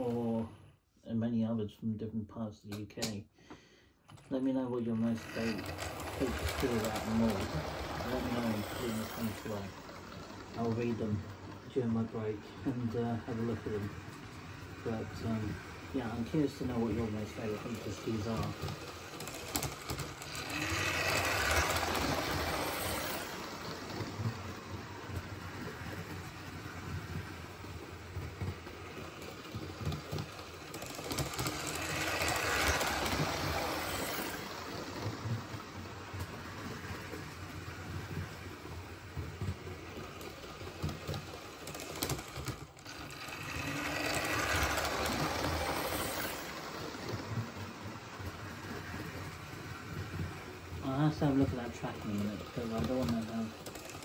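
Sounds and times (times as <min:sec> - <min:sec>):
model train rushing past: 0:04.8 - 0:54.0.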